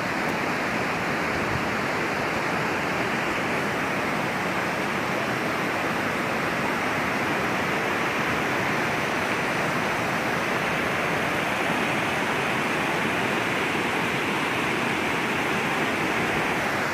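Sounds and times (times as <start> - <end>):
waterfall: 0.0 - 16.9.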